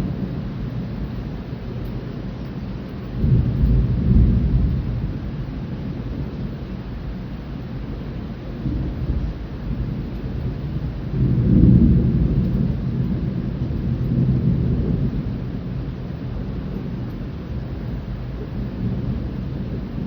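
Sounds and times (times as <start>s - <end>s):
rolling thunder rumbling: 0.0s - 20.0s
steady rain: 0.0s - 20.0s.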